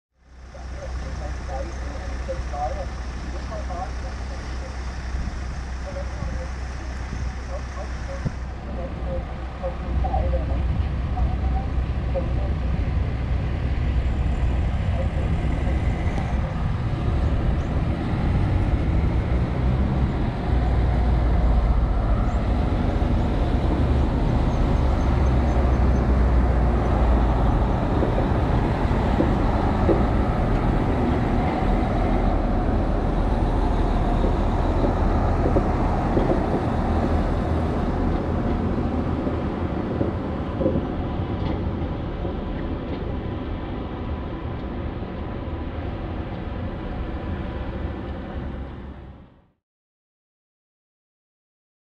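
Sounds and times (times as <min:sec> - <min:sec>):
diesel train passing: 0:00.2 - 0:49.4.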